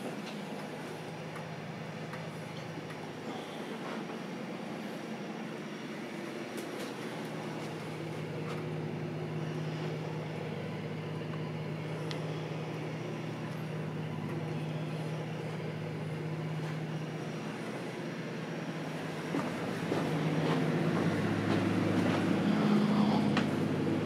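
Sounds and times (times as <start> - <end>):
low mechanical hum with hiss: 0.0 - 24.0.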